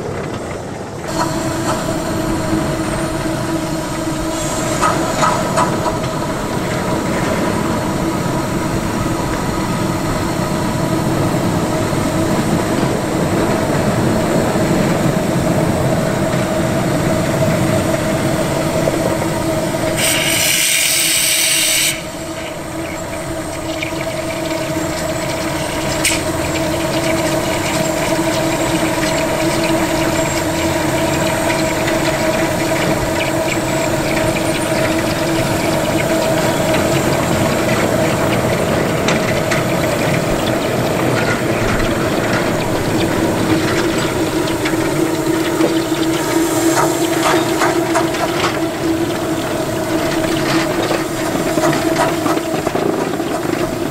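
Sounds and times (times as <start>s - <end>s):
hum: 0.0s - 53.9s
steam locomotive running: 0.0s - 53.9s
loud steam hiss: 0.9s - 53.9s.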